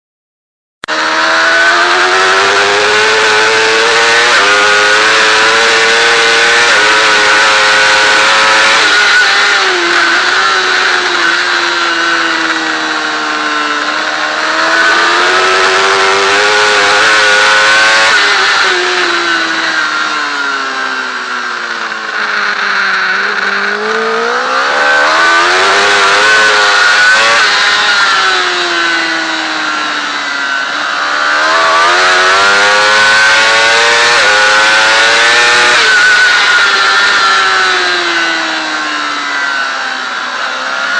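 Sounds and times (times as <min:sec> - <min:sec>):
motorcycle engine revving: 0:00.8 - 0:40.9.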